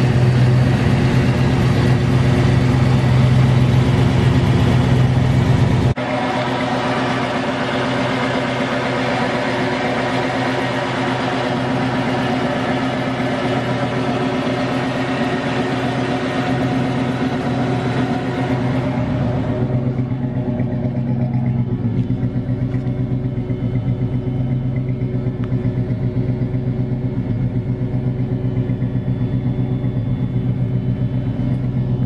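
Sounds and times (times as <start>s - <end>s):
loud car exhaust note: 0.0s - 32.0s.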